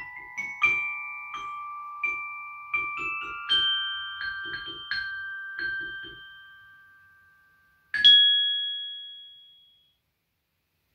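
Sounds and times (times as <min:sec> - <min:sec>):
glockenspiel notes ringing: 0:00.0 - 0:10.0.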